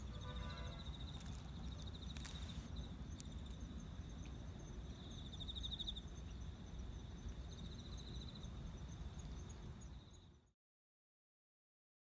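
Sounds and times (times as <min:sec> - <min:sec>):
insects trilling: 0:00.0 - 0:10.4.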